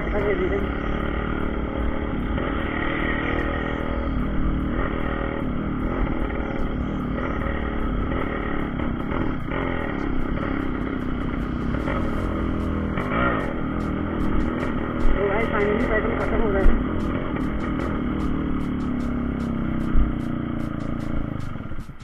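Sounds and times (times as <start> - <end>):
two-stroke motorcycle engine: 0.0 - 22.0.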